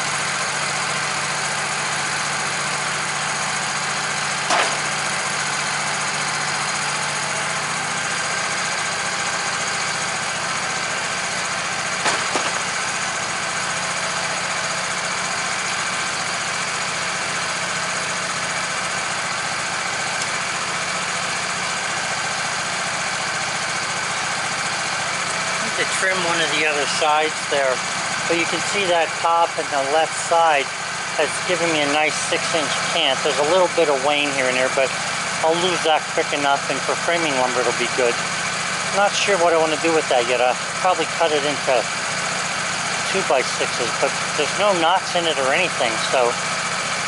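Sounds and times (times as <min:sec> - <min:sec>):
sawmill engine idling: 0:00.0 - 0:47.0.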